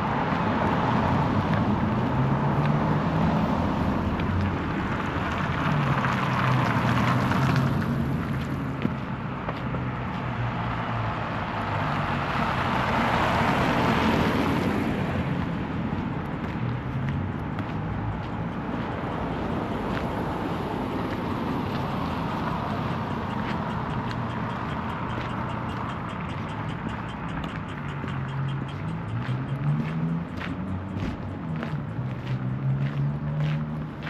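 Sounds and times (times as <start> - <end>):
cars passing on street: 0.0 - 34.0.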